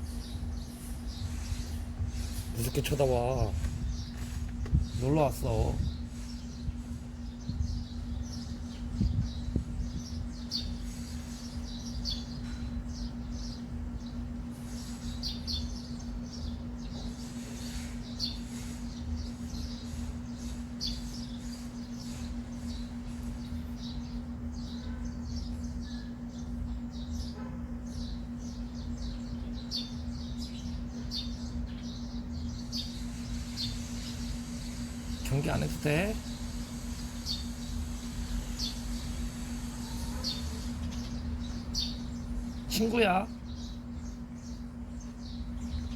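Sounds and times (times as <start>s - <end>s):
small birds chirping: 0.0s - 45.9s
steady low hum: 0.0s - 45.9s.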